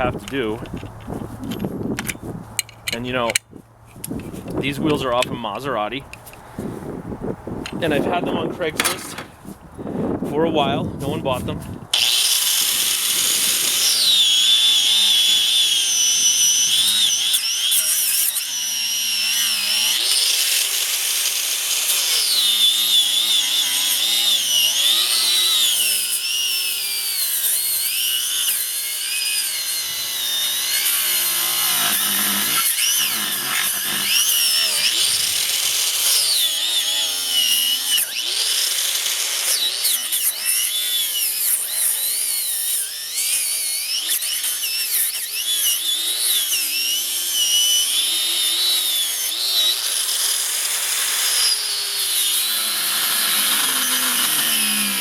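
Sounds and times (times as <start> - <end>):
angle grinder cutting rubber tire: 7.8 - 9.4, 11.9 - 55.0.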